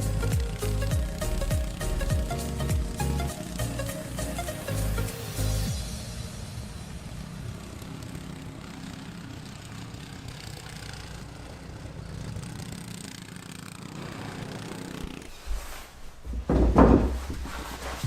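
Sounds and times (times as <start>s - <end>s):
snowblower engine running: 0.0s - 15.4s.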